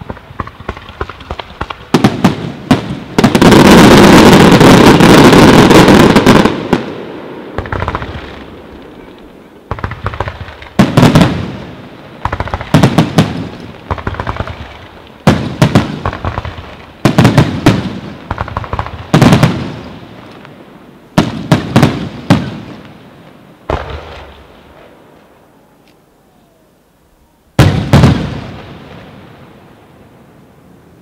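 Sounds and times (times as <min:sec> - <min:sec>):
fireworks bursting with loud bangs: 0:00.0 - 0:25.5, 0:27.5 - 0:30.4.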